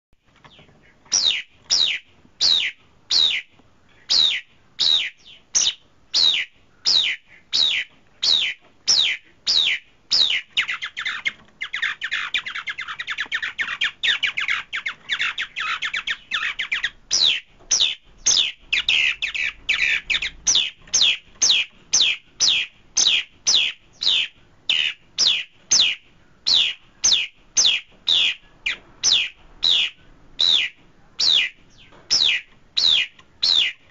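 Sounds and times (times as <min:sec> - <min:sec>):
bird chattering: 0:00.5 - 0:33.9
bird calling downward notes: 0:04.1 - 0:33.9.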